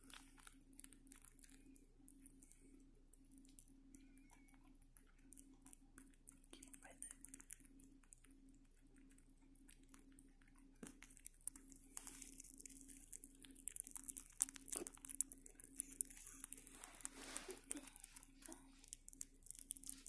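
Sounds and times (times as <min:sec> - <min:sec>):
rabbit chewing: 0:00.0 - 0:20.0.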